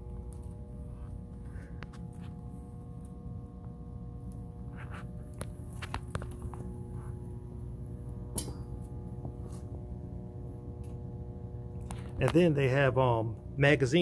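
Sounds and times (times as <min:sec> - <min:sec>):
room hum: 0:00.0 - 0:14.0.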